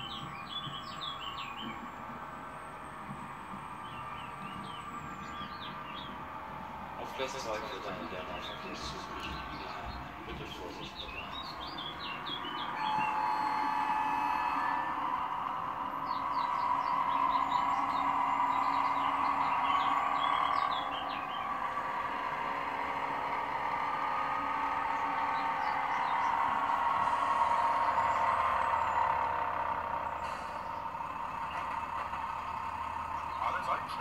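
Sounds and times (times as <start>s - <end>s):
diesel railbus engine running: 0.0s - 34.0s.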